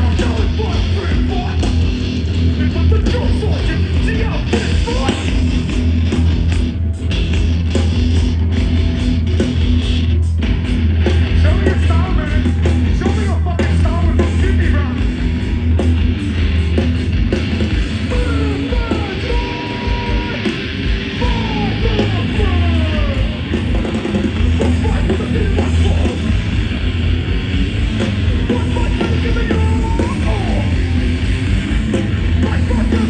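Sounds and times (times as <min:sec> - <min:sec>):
loud hardcore band playing: 0:00.0 - 0:33.0.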